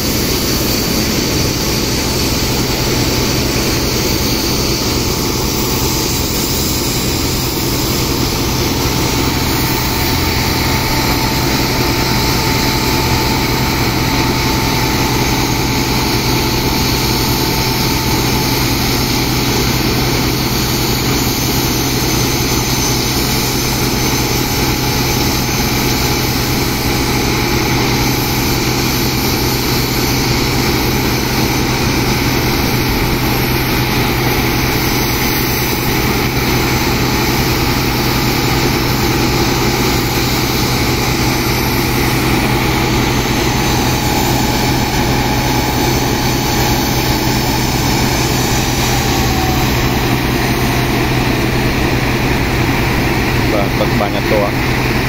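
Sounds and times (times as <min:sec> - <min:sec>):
high-pressure water jets hissing: 0:00.0 - 0:55.0
sand-pumping engine running: 0:00.0 - 0:55.0.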